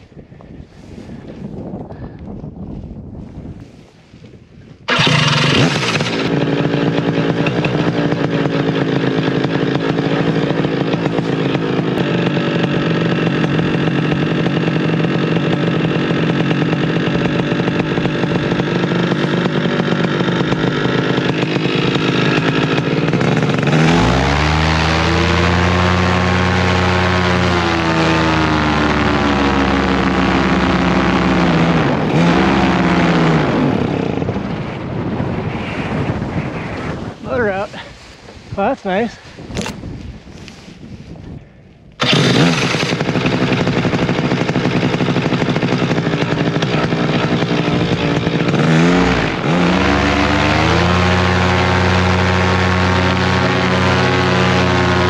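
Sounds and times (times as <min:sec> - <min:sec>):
paramotor engine running: 0:04.8 - 0:39.8, 0:42.0 - 0:55.0.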